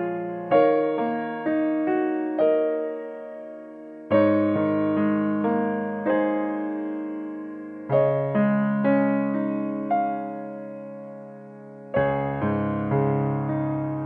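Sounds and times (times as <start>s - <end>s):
slow gentle piano music: 0.0s - 14.0s.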